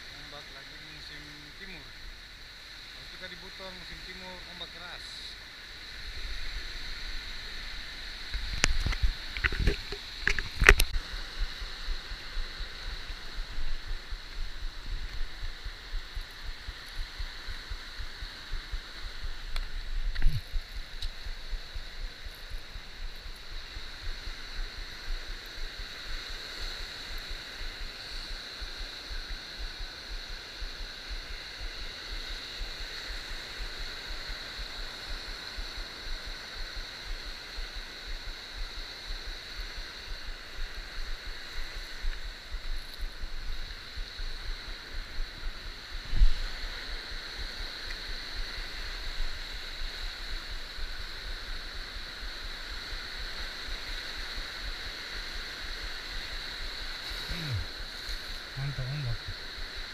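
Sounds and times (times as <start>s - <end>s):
high hiss: 0.0s - 59.9s
surf washing over reef: 0.0s - 59.9s.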